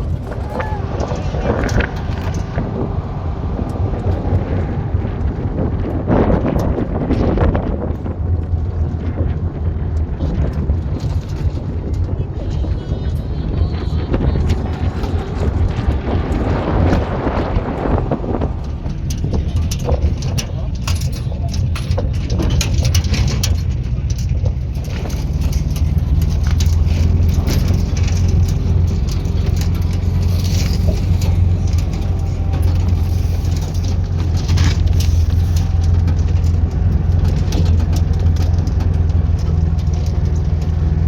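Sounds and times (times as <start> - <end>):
vehicle engine and road rumble: 0.0 - 41.0
small knocks and rattles: 5.2 - 13.2, 14.4 - 41.0.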